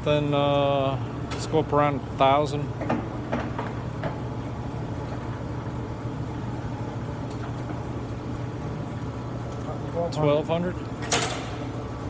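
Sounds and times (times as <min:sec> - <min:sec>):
lathe running hum: 0:00.0 - 0:12.0.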